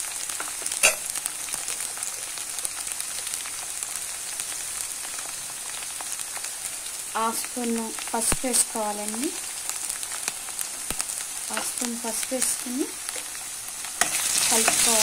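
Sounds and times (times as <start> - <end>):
onions frying in hot oil: 0.0 - 15.0.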